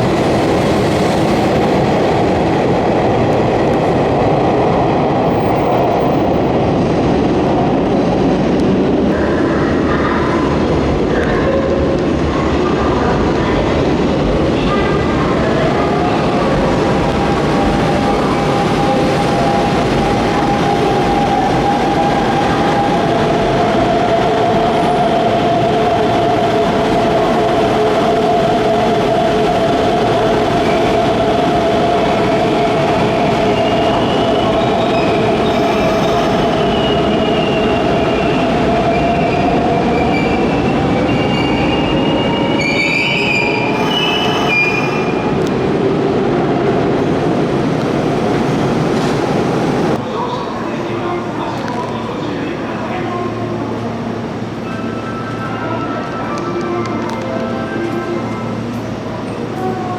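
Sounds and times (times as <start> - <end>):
rail noise: 0.0 - 59.9.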